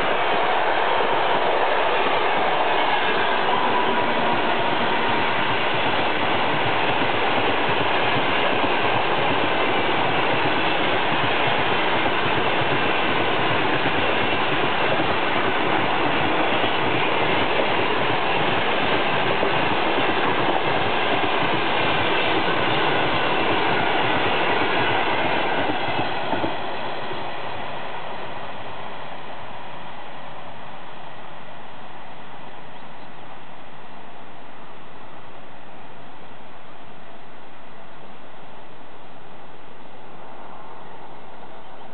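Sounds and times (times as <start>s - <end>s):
train wheels rushing on rail: 0.0s - 41.9s.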